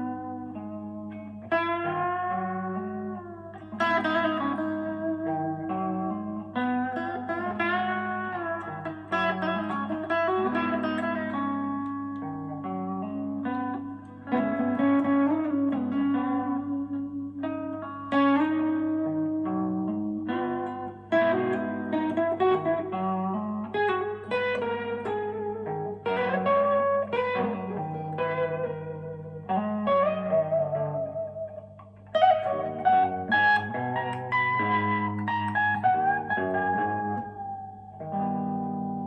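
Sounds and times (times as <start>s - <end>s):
electric guitar notes and chords: 0.0s - 39.0s.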